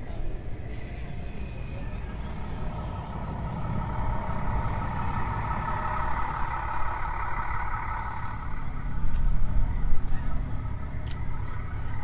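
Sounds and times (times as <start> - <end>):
low rumble: 0.0 - 12.0
truck engine drone: 0.0 - 12.0.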